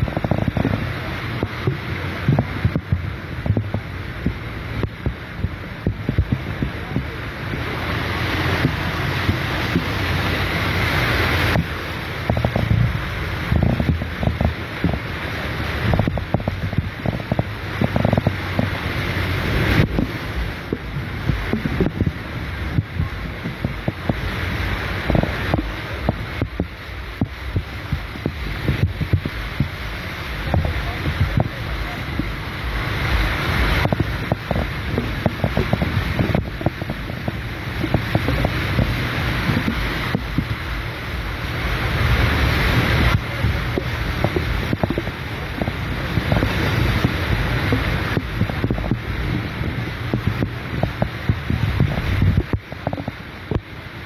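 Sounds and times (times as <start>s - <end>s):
heavy rain and wind: 0.0s - 54.0s
steady low rumble: 0.0s - 54.0s
tyres rushing through water: 0.0s - 54.0s.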